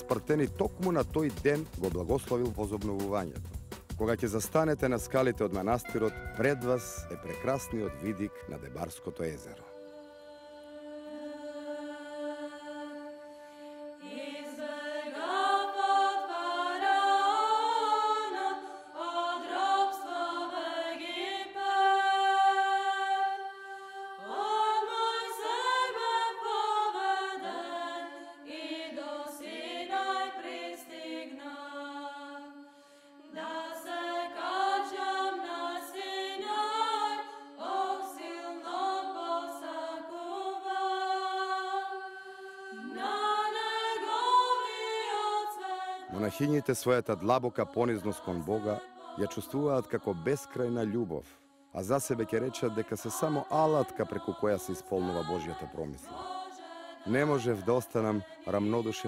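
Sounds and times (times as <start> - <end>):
women's choir chanting: 9.7 - 50.8, 52.0 - 59.0.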